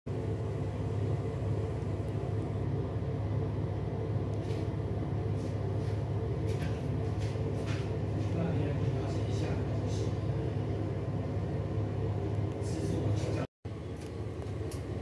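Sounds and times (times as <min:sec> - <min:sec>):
low mechanical hum: 0:00.1 - 0:15.0.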